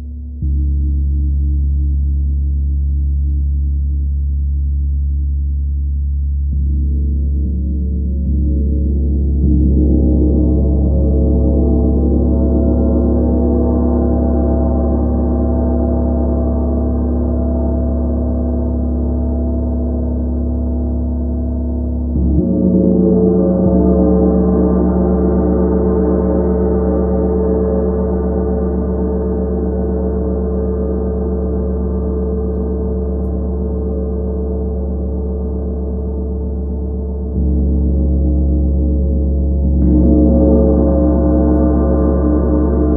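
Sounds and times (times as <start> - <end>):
gong rubbed and struck: 6.6 - 42.9.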